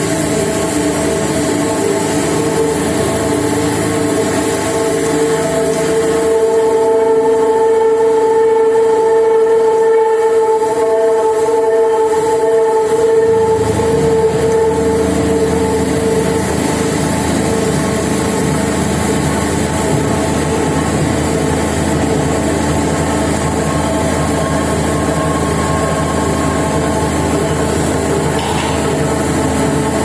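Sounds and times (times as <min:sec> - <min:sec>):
milling machine humming: 0:00.0 - 0:30.0.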